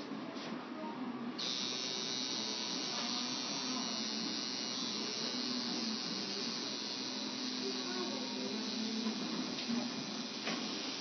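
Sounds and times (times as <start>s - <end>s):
tattoo machine buzzing: 1.4s - 11.0s.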